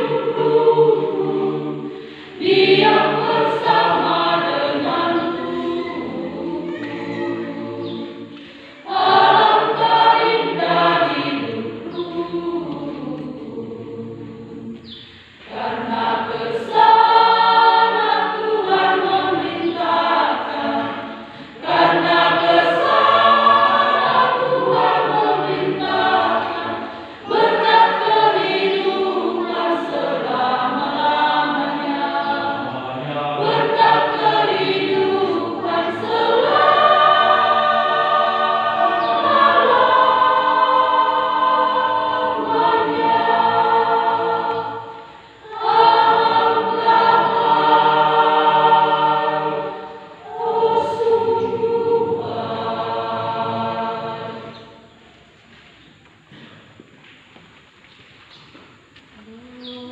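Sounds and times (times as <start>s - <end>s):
women's choir singing: 0.0s - 55.3s.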